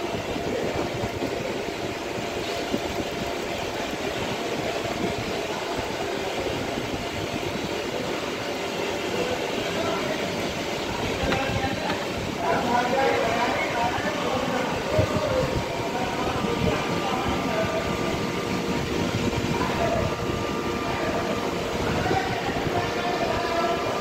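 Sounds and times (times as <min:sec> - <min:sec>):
steady machine noise: 0:00.0 - 0:24.0.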